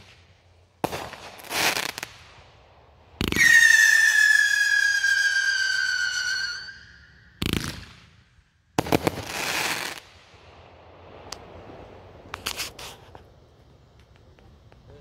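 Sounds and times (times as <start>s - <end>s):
fireworks bangs: 0.0s - 13.2s.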